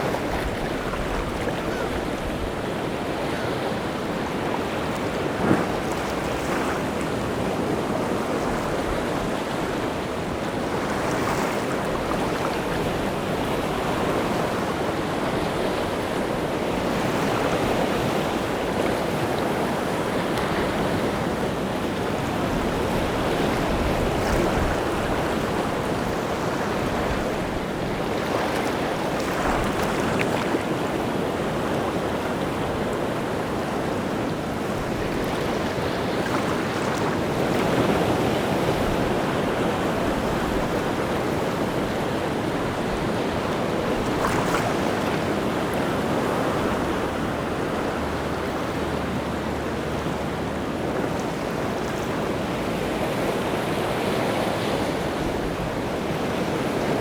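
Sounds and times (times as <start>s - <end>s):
waves breaking: 0.0s - 57.0s
wind over water: 0.0s - 57.0s.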